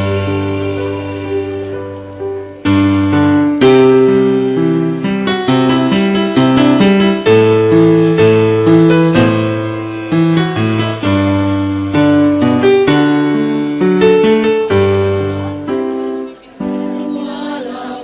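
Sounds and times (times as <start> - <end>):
piano chords and melody: 0.0 - 18.0.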